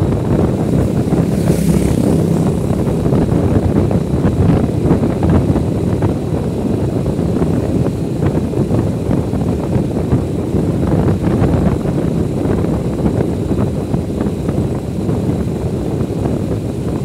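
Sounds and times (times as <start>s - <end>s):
motorcycle engine and road noise: 0.0s - 17.0s
wind buffeting microphone: 0.0s - 17.0s.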